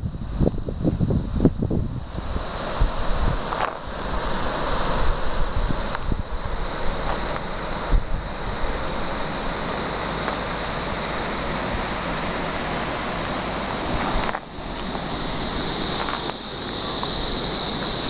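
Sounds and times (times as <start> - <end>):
thin high whine: 0.0 - 18.0
wind buffeting microphone: 0.0 - 18.0.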